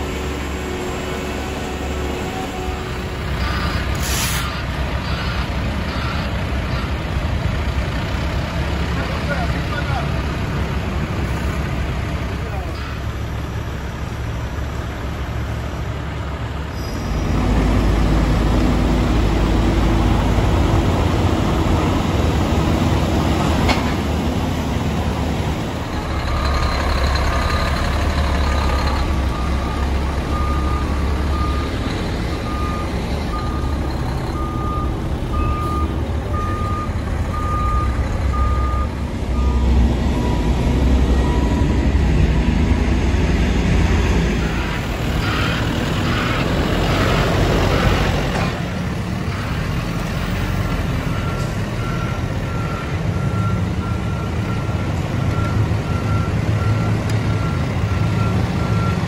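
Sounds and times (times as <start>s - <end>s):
deep engine rumble: 0.0s - 59.0s.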